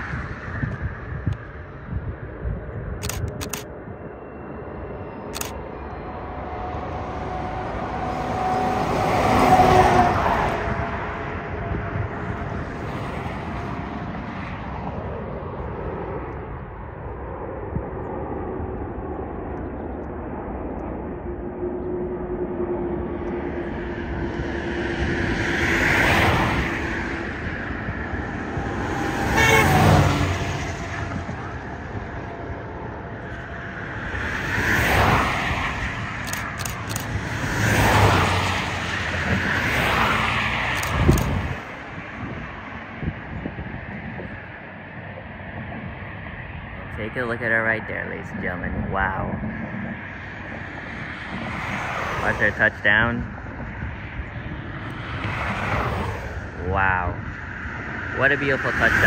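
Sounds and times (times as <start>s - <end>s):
jet engines rumbling: 0.0s - 59.0s
road traffic: 0.0s - 59.0s
vehicles passing close by: 0.0s - 59.0s.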